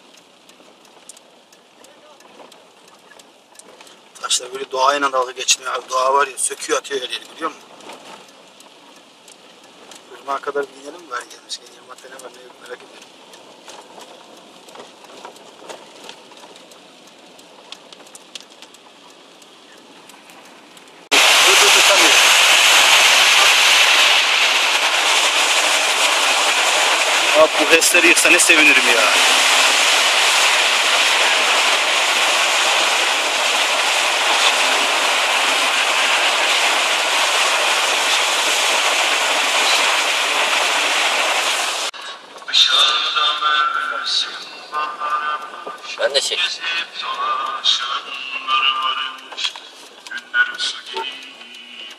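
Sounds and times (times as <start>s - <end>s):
floodwater rushing down river: 0.0s - 48.1s
raindrops ticking on car: 0.0s - 51.9s
soft steady rain hiss: 0.0s - 51.9s.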